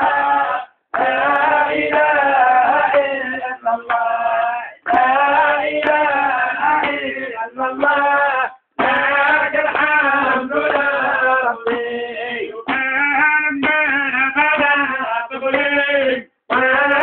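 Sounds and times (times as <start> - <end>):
men singing: 0.0 - 17.0.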